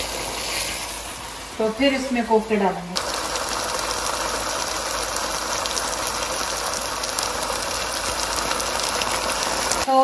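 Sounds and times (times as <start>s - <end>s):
curry masala sizzling in oil: 0.0s - 10.0s.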